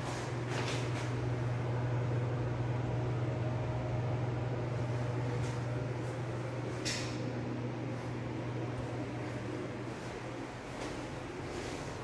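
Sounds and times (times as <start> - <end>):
ventilation fan humming: 0.0 - 12.0.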